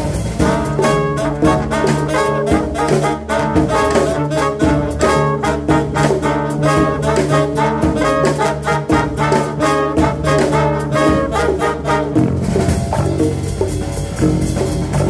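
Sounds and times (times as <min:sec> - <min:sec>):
horn section stabs: 0:00.0 - 0:13.3
bass line: 0:00.0 - 0:15.0
drums: 0:00.0 - 0:15.0.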